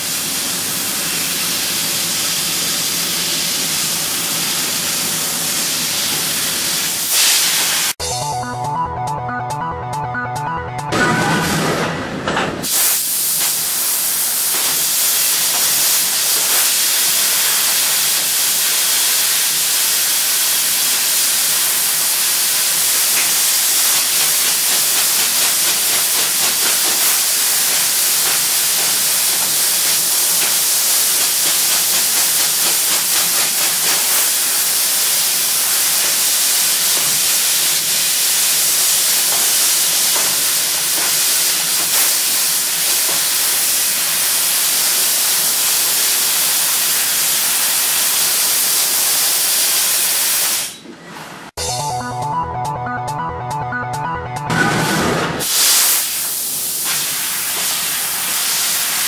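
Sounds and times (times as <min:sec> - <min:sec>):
loud gas hiss: 0:00.0 - 0:08.0, 0:12.6 - 0:50.8, 0:55.4 - 0:59.0.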